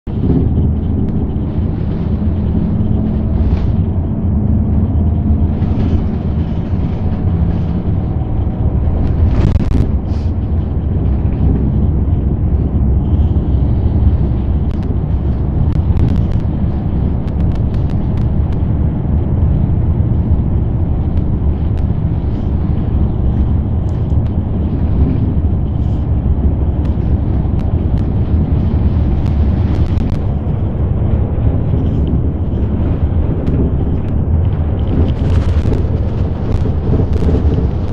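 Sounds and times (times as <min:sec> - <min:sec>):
bus engine and road rumble: 0:00.0 - 0:37.9.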